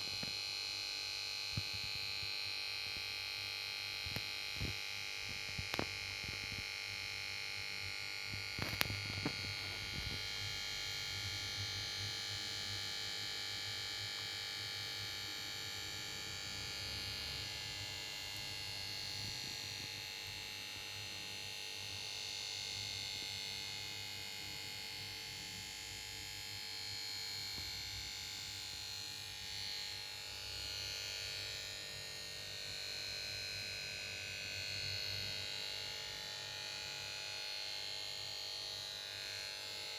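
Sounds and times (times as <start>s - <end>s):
electrical whine and buzz: 0.0s - 39.9s
low electrical hum: 0.0s - 39.9s.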